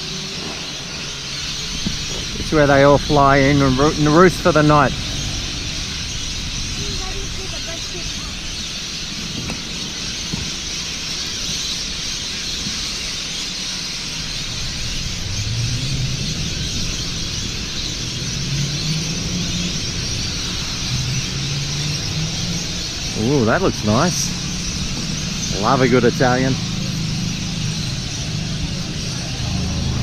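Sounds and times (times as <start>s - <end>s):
flock of birds calling: 0.0s - 30.0s
traffic hum: 0.0s - 30.0s.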